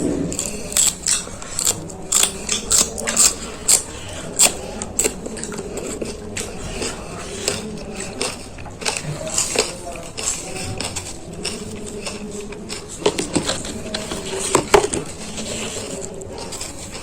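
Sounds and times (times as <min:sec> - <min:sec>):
crunchy food chewing: 0:00.0 - 0:17.0.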